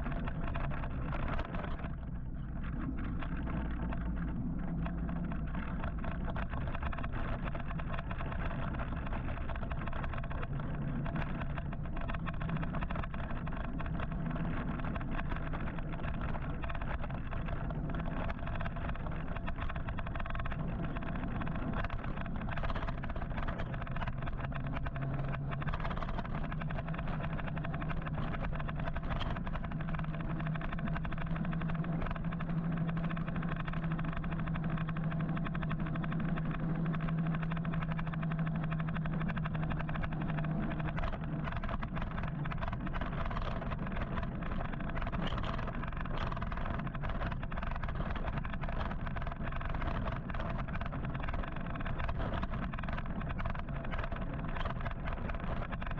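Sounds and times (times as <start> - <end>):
low hum: 0.0 - 55.9.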